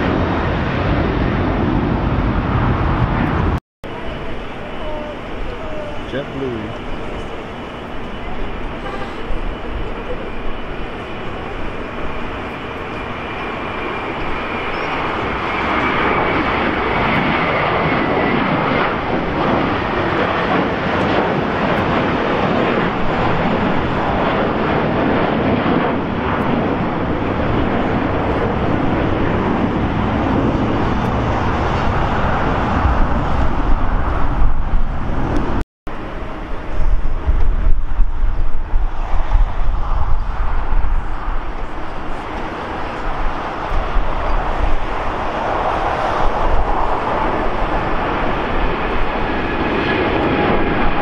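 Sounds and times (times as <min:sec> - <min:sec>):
jet engine noise: 0:00.0 - 0:51.0.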